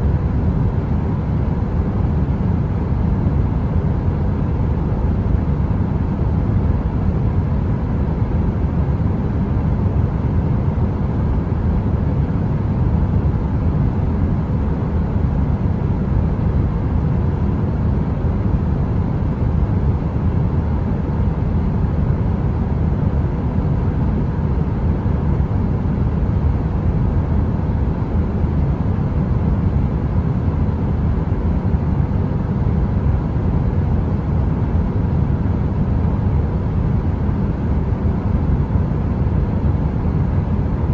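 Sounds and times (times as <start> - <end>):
faint constant hum: 0.0 - 40.9.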